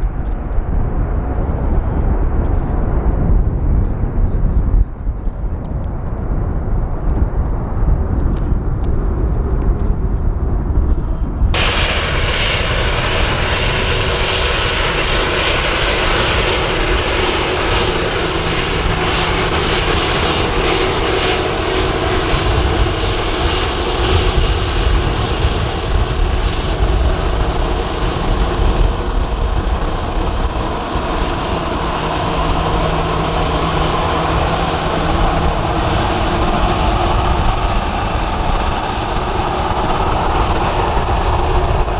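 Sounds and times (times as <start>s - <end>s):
wind rumbling on microphone: 0.0s - 41.9s
jet engines taxiing: 5.1s - 41.9s.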